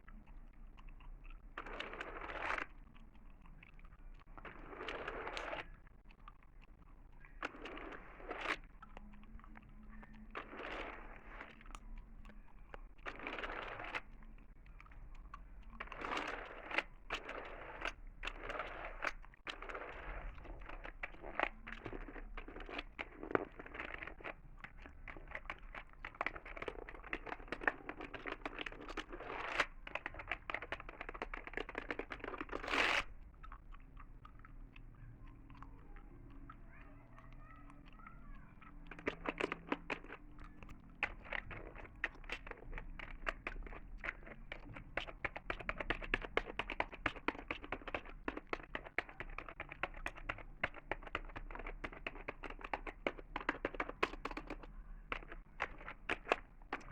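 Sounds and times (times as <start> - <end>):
gum chewing: 0.0 - 56.9
keyboard typing: 0.0 - 56.9.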